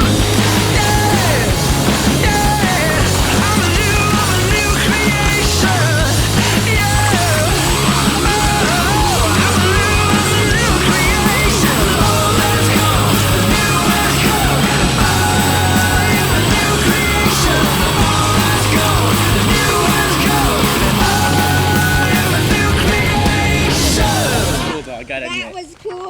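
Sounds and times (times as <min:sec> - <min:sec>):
loud rock music: 0:00.0 - 0:25.6.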